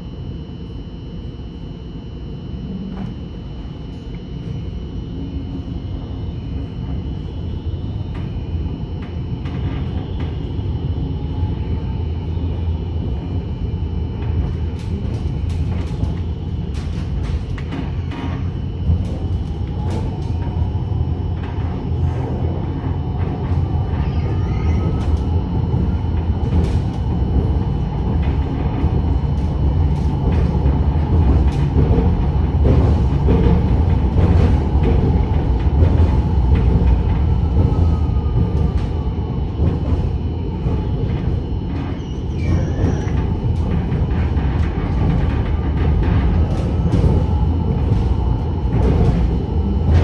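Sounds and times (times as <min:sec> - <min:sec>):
tram rumbling on rails: 0:00.0 - 0:50.0.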